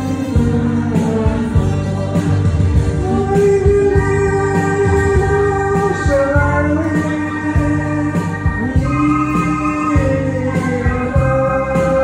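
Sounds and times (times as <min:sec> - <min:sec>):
synthesizer chords and melody: 0:00.0 - 0:12.0
drum beat: 0:01.3 - 0:12.0.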